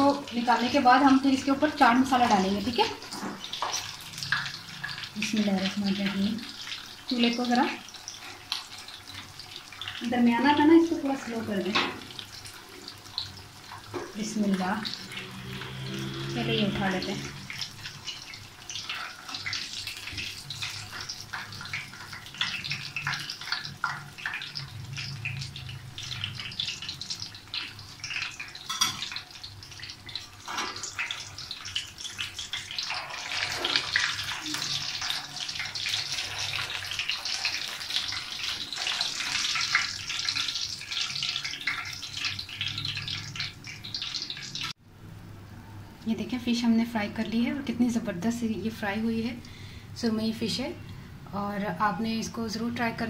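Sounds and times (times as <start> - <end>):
fish deep-frying in oil: 0.0 - 44.8.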